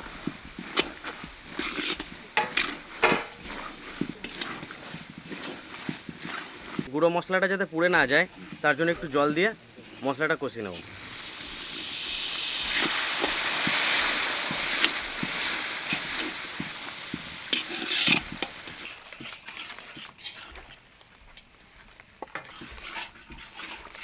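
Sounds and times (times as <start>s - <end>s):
spatula scraping wok: 0.0s - 6.9s, 7.8s - 24.0s
water sizzling in hot oil: 0.0s - 24.0s.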